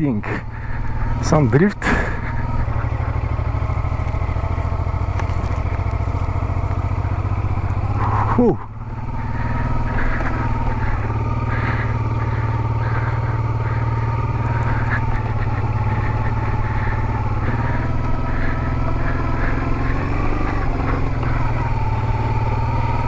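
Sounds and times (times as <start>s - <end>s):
motorcycle engine running: 0.0s - 23.0s
clatter over gravel: 0.2s - 23.0s.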